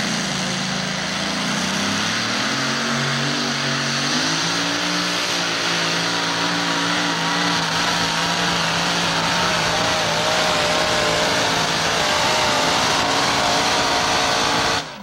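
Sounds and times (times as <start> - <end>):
tractor engines revving hard: 0.0 - 15.0.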